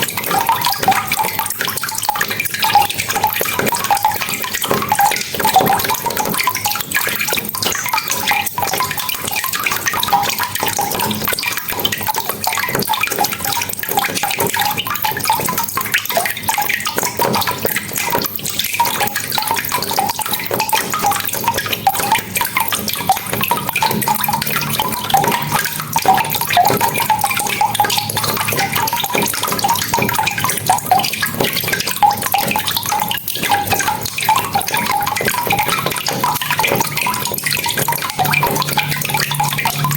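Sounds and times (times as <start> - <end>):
drips splashing: 0.0 - 39.9.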